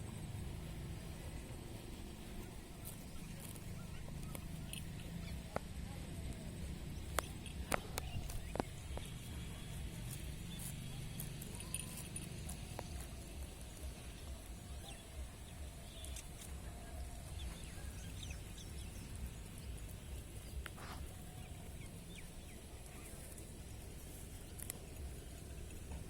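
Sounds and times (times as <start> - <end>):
bird calls: 2.2 - 5.6, 6.9 - 26.0.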